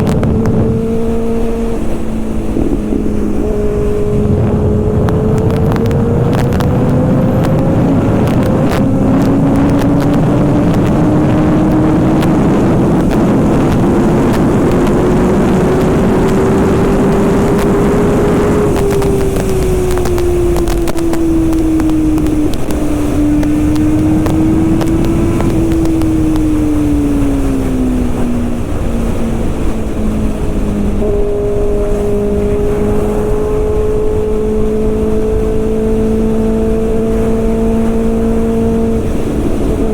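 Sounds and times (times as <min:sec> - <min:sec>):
motorcycle engine and exhaust: 0:00.0 - 0:39.9
wind rush on microphone: 0:00.0 - 0:39.9.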